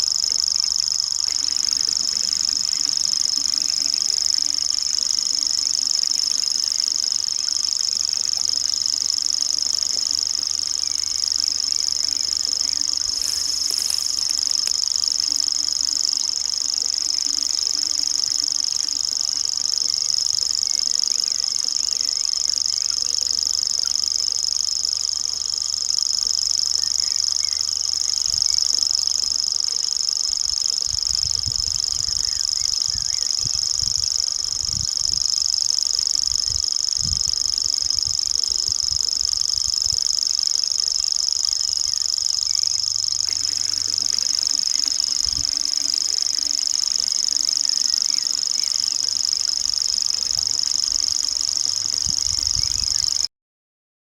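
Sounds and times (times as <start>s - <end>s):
bird reeling trill: 0.0s - 53.3s.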